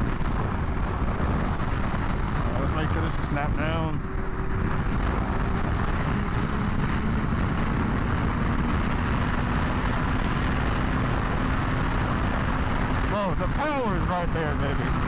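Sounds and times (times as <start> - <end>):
motorcycle engine running: 0.0 - 15.0
wind rush on microphone: 0.0 - 15.0.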